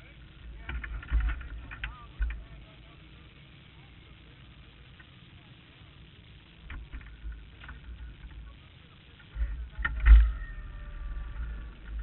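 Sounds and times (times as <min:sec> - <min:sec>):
faint steady whine: 0:00.0 - 0:12.0
low rumble of idling vehicles: 0:00.0 - 0:12.0.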